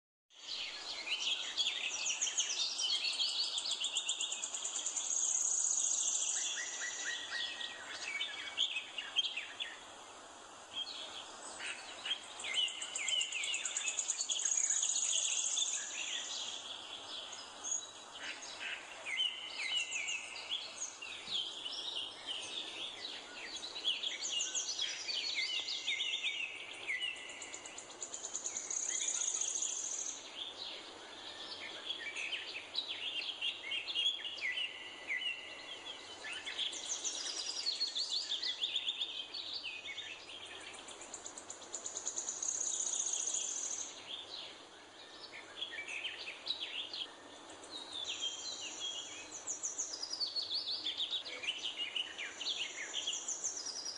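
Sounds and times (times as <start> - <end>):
songbirds singing and chirping: 0.3 - 53.9.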